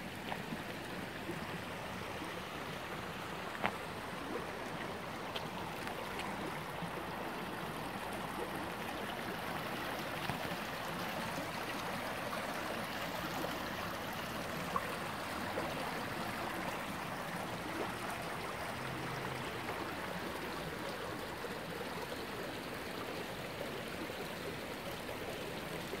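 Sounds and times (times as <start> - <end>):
brook trickling over stones: 0.0 - 26.0.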